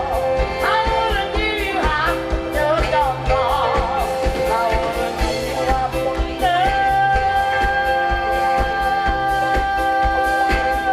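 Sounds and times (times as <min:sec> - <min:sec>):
band playing: 0:00.0 - 0:10.9
steady drum beat: 0:00.0 - 0:10.9
woman singing pop song: 0:00.0 - 0:10.9.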